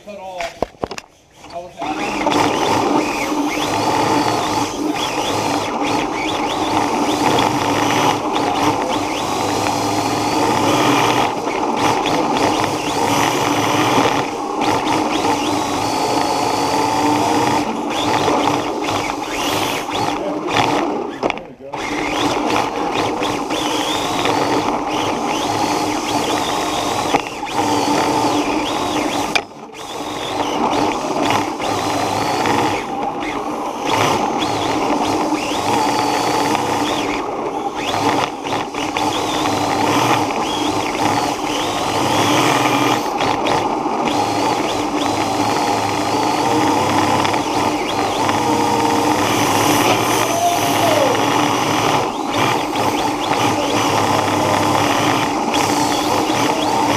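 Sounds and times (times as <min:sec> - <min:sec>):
rc car motor whining: 0:00.0 - 0:56.9
gear and drivetrain whir: 0:00.9 - 0:56.9.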